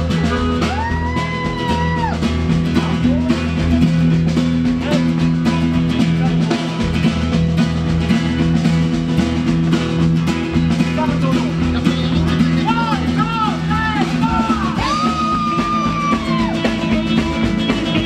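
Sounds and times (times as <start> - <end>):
drum kit: 0.0 - 18.0
strummed acoustic guitar: 0.0 - 18.0
upright double bass: 0.0 - 18.0.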